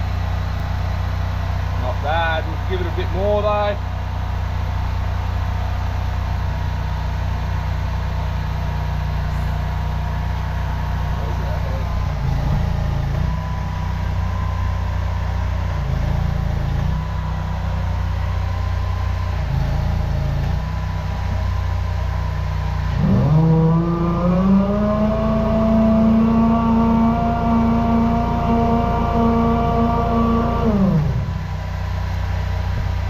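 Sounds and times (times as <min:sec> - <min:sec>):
drain jetter engine running: 0:00.0 - 0:33.0.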